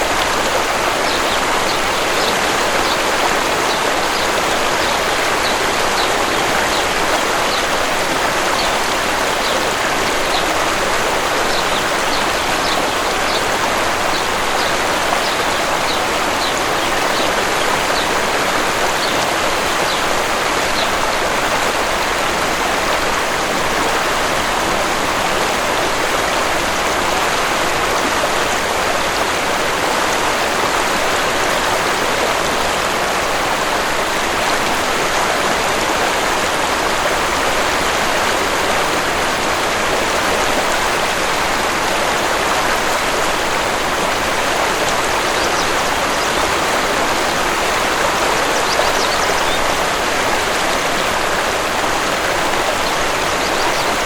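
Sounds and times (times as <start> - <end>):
waterfall and stream rushing: 0.0 - 54.0.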